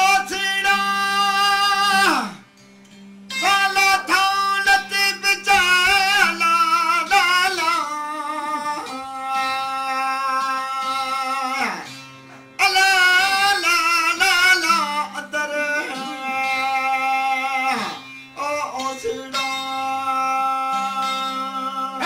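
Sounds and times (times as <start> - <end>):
man folk singing: 0.0 - 2.5, 3.3 - 22.0
plucked lutes drone: 0.0 - 22.0.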